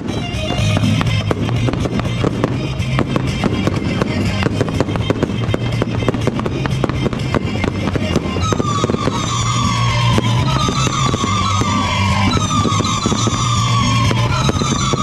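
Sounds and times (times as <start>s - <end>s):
fireworks bangs and crackles: 0.0s - 15.0s
music with steady bass: 0.0s - 15.0s.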